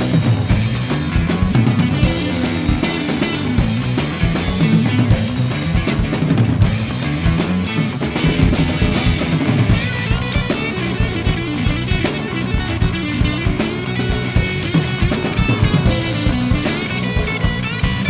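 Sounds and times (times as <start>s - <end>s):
bass line: 0.0s - 18.0s
driving drum beat: 0.0s - 18.0s
electric guitar: 0.0s - 18.0s.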